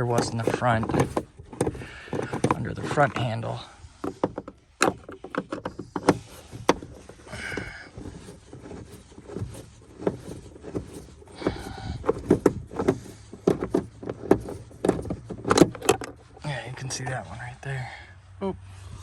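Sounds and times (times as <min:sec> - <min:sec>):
plastic trim creaking: 0:00.0 - 0:17.2
clicks and knocks on plastic trim: 0:00.2 - 0:03.3, 0:04.0 - 0:16.2.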